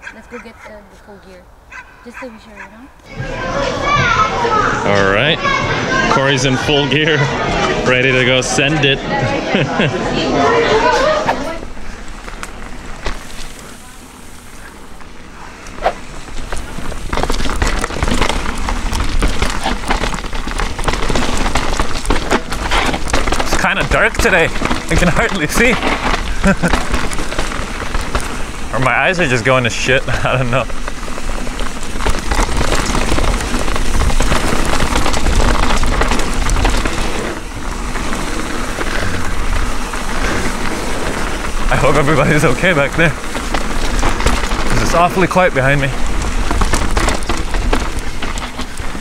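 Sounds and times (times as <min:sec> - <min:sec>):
bike tyres rattling on dirt trail: 0:00.0 - 0:49.0.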